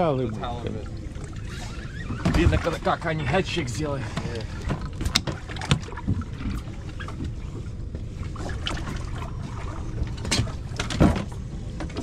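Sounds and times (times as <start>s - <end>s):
boat low rumble: 0.0s - 12.0s.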